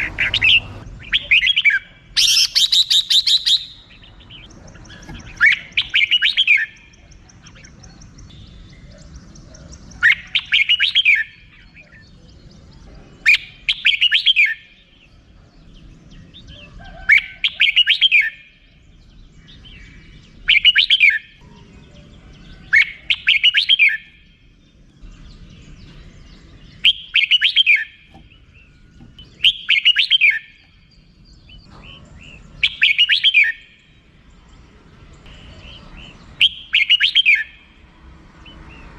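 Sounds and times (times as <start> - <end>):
bird chattering song: 0.0 - 37.8.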